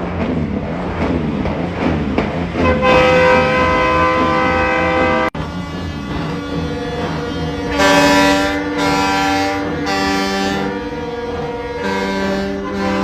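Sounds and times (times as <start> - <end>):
truck air horns playing chords: 2.6 - 13.0.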